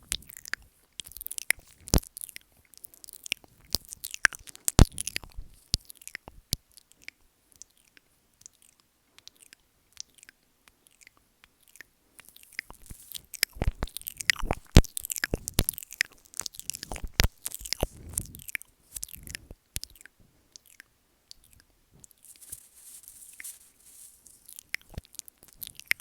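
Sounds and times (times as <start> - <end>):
wet mouth clicks and smacks: 0.1 - 21.7, 24.4 - 26.0.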